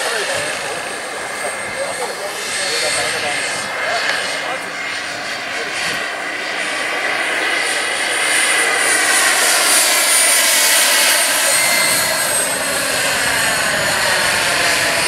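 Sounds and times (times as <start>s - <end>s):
helicopter rotor noise: 0.0s - 15.0s
turbine whine: 0.0s - 15.0s.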